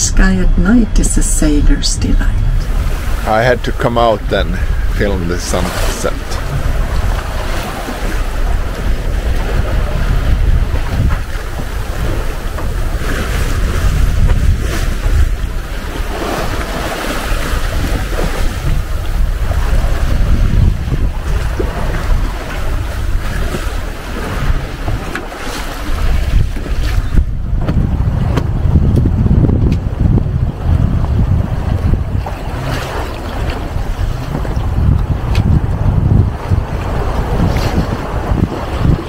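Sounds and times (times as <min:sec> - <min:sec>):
water rushing along a hull: 0:00.0 - 0:39.0
wind noise on microphone: 0:00.0 - 0:39.0.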